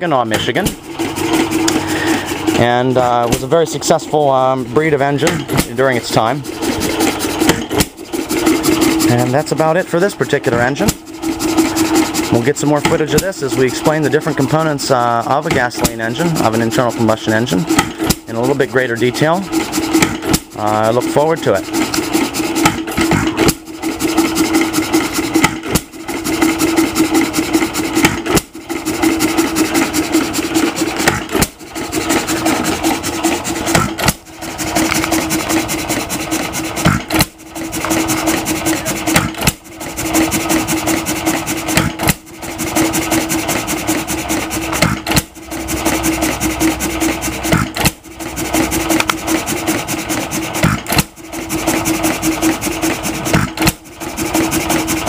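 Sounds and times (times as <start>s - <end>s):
hit-and-miss engine clattering: 0.0s - 55.0s.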